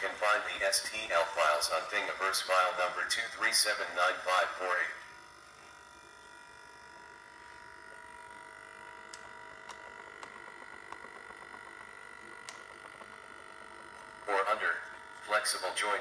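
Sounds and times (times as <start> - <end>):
servo motors whining: 0.0 - 16.0.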